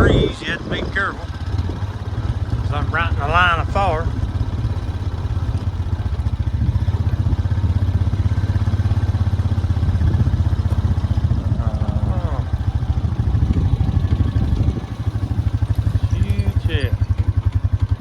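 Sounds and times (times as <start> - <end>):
vehicle engine running: 0.0 - 18.0
wind buffeting microphone: 0.0 - 18.0.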